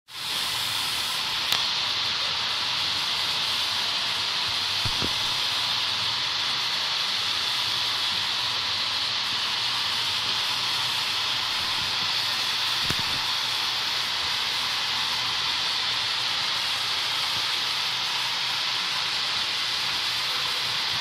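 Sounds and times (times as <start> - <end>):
water spraying onto floor: 0.1 - 21.0.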